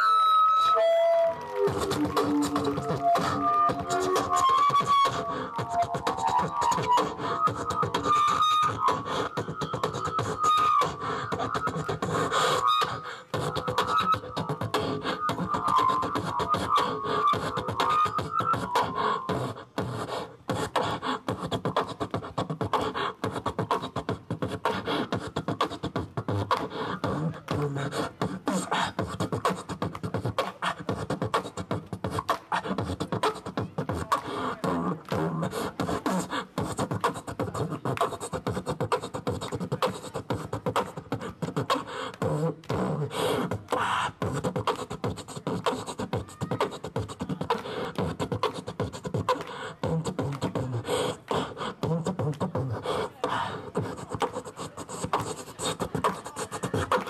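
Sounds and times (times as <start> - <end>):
person beatboxing: 0.0 - 57.0.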